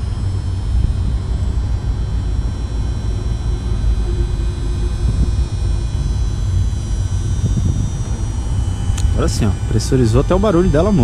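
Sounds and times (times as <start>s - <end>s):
hydraulic pump running: 0.0s - 11.0s
steady low rumble: 0.0s - 11.0s.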